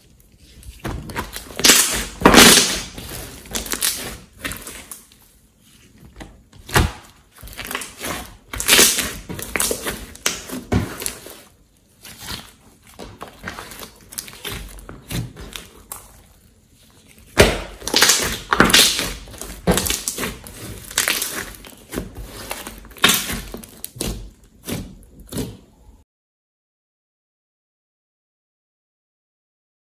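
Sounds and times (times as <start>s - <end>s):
slime squelching and popping: 0.4s - 5.2s, 6.1s - 25.5s.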